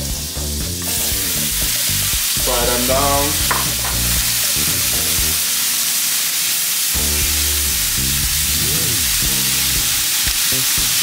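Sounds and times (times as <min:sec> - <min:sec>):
background music: 0:00.0 - 0:11.0
vegetables sizzling in a pan: 0:00.0 - 0:11.0.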